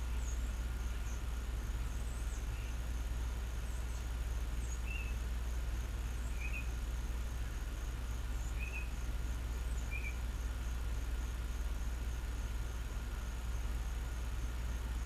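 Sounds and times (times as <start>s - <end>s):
small bird chirping: 0.0s - 12.3s
steady low hum: 0.0s - 15.0s.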